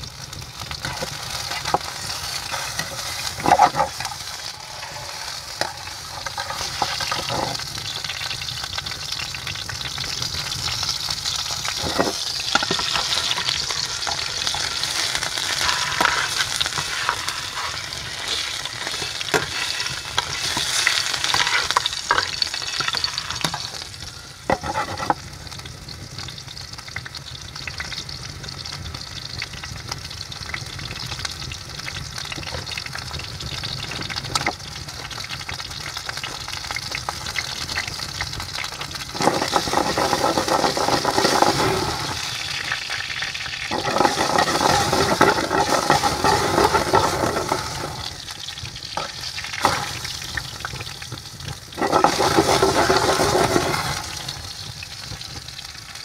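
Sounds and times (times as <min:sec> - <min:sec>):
meat sizzling in a pan: 0:00.0 - 0:56.0.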